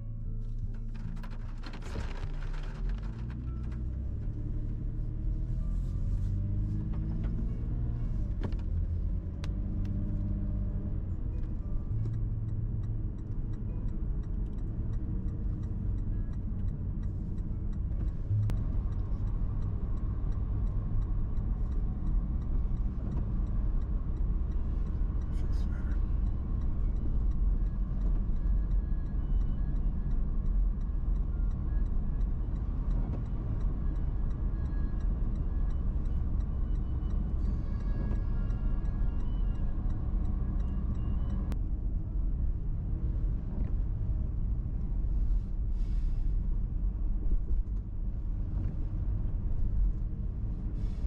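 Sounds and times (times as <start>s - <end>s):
car engine heard from inside: 0.0s - 51.0s.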